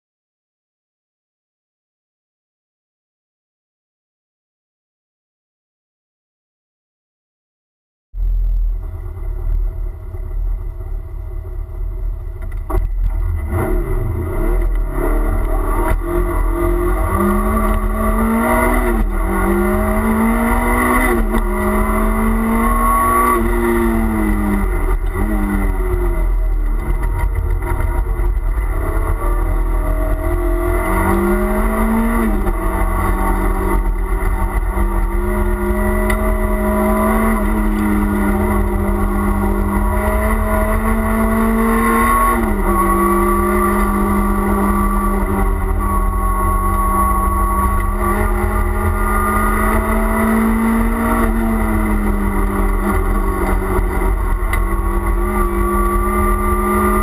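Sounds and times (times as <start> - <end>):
car engine accelerating: 8.2 - 57.0.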